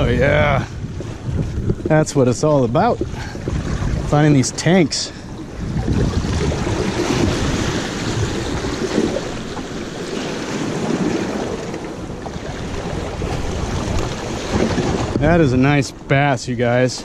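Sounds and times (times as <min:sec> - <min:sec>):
surf washing against rocks: 0:00.0 - 0:17.0
wind buffeting microphone: 0:00.0 - 0:17.0.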